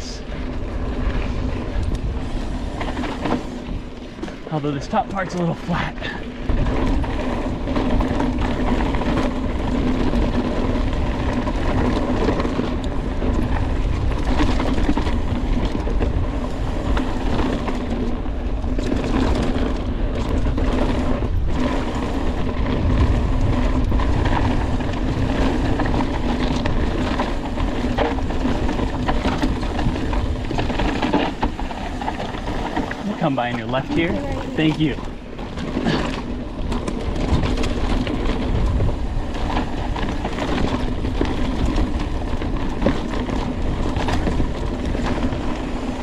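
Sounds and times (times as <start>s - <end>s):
tyre rumble on dirt trail: 0.0s - 46.0s
wind rushing on microphone: 0.0s - 46.0s.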